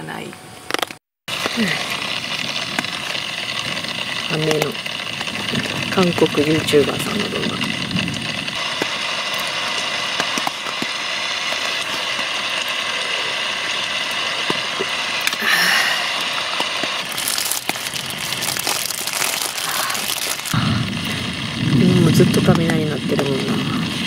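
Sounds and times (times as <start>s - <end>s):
plastic bag crinkling: 0.7s - 20.6s
rain on a tent: 1.3s - 24.0s.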